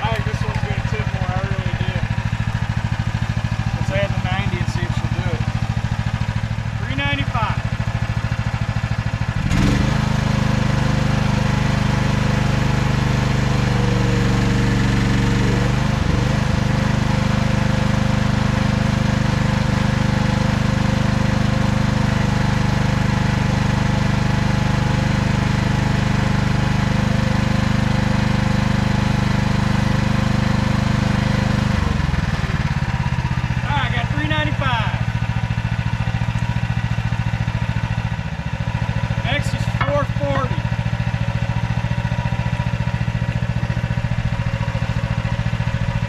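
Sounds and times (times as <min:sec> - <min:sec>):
mini excavator engine running: 0:00.0 - 0:46.0.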